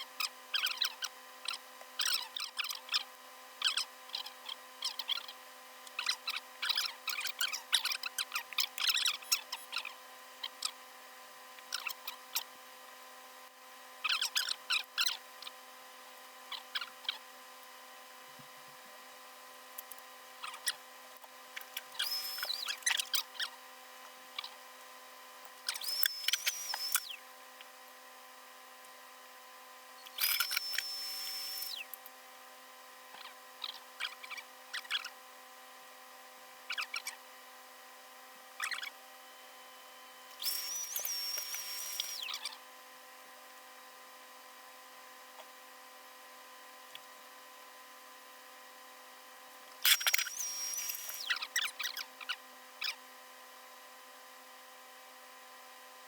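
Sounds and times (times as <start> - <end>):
small electric motor tool whining: 0.0 - 49.0, 49.6 - 55.9.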